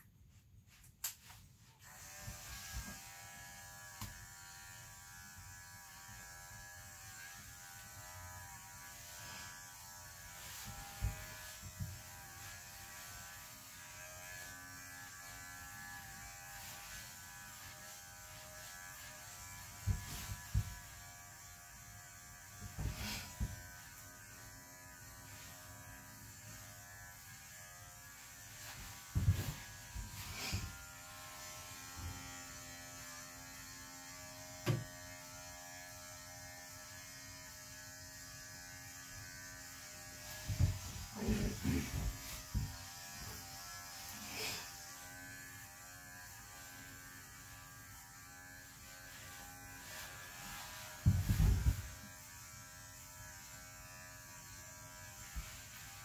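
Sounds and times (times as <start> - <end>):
electric clippers running: 1.1 - 56.0.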